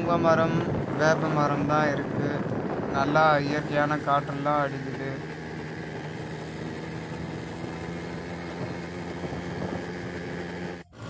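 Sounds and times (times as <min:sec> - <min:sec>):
motorbike engine humming: 0:00.0 - 0:11.0
road and wind noise: 0:00.0 - 0:11.0.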